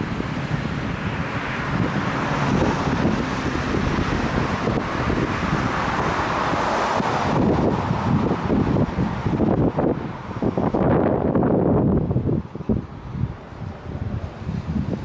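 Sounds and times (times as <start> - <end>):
road traffic hiss: 0.0 - 15.0
wind buffeting microphone: 0.0 - 15.0.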